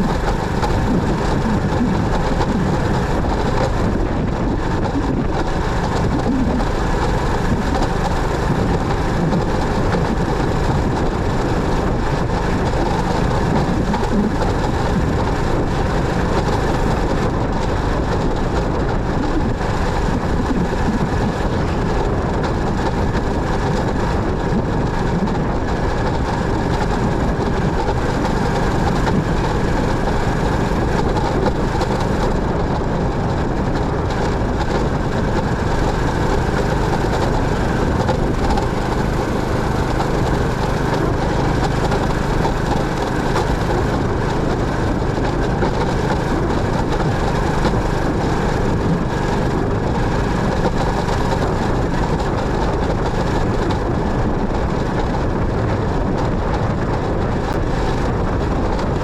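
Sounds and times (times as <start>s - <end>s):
motorcycle engine running: 0.0s - 59.0s
wind and road rumble: 0.0s - 59.0s.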